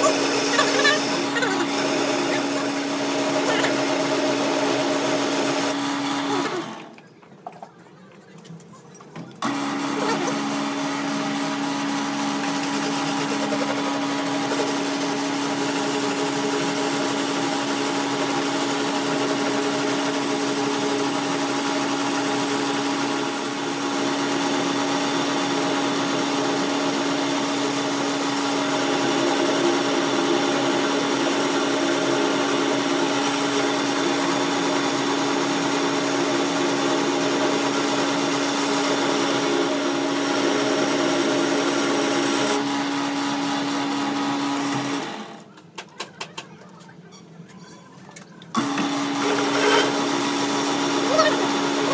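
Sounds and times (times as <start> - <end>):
electric machine humming: 0.0 - 7.0, 9.4 - 45.3, 48.6 - 51.9.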